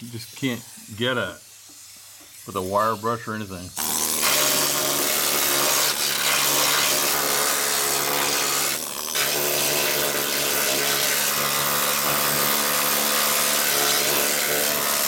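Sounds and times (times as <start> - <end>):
small power tool on sheet metal: 0.0 - 15.0.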